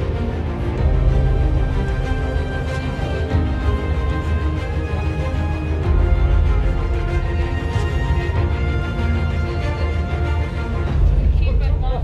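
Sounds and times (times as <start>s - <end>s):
background music with strong bass: 0.0s - 12.0s.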